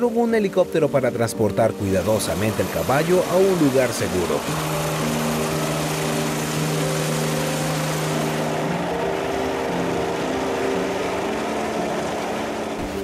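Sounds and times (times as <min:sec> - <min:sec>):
background music of held notes: 0:00.0 - 0:13.0
helicopter rotor noise: 0:00.0 - 0:13.0.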